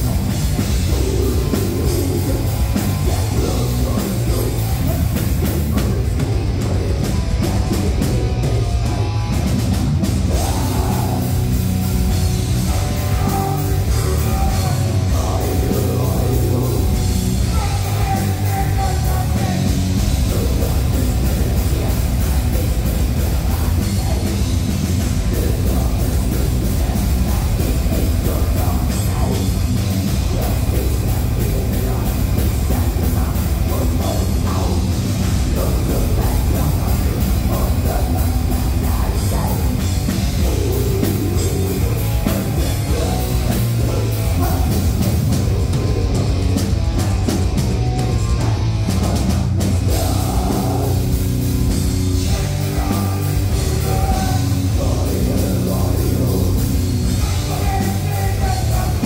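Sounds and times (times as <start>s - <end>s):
person singing: 0.0s - 9.4s, 10.3s - 59.0s
distorted electric guitars: 0.0s - 59.0s
pounding drum kit: 0.0s - 59.0s.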